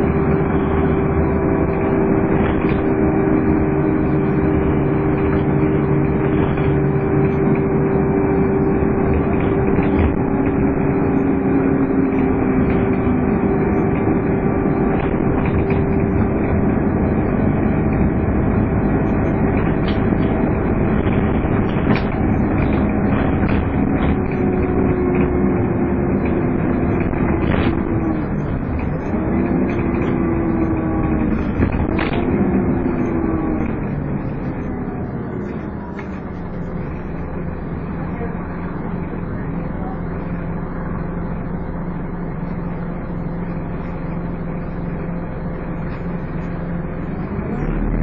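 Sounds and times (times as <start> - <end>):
bus engine whine: 0.0 - 48.0
road noise: 0.0 - 48.0.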